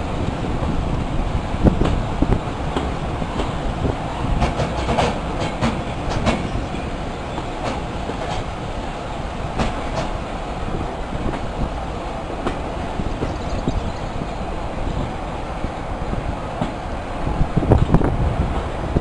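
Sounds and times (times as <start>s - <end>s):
train rolling rumble: 0.0s - 19.0s
train wheels clicking over rail joints: 1.7s - 15.2s, 16.0s - 19.0s.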